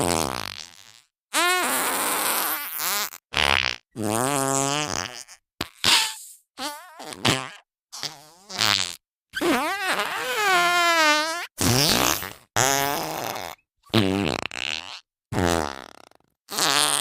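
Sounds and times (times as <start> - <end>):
cartoon fart sound effects: 0.0 - 17.0.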